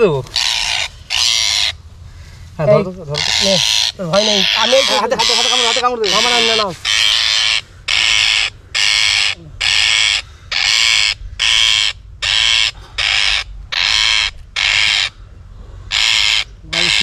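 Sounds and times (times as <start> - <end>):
parakeet screeching: 0.0 - 15.2, 15.9 - 17.0.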